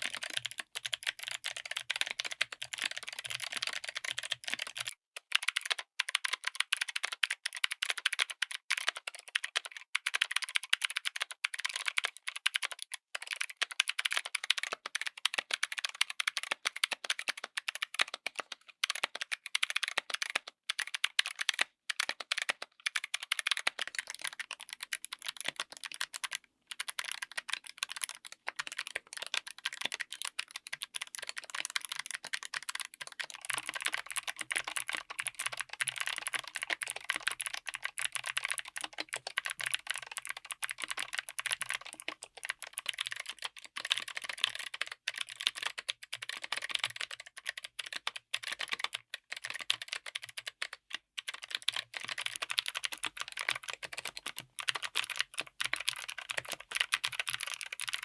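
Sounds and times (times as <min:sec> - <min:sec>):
fast clicky keyboard typing: 0:00.0 - 0:58.0.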